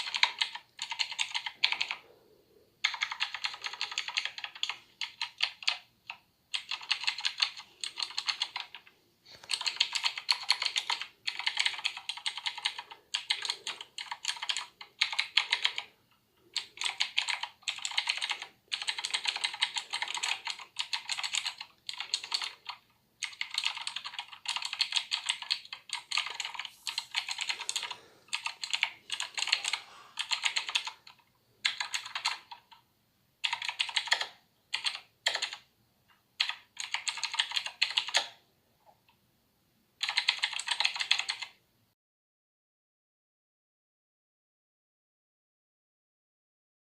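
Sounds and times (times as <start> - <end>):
mechanical keyboard typing: 0.0 - 2.0, 2.8 - 32.8, 33.4 - 35.7, 36.4 - 38.4, 40.0 - 41.6.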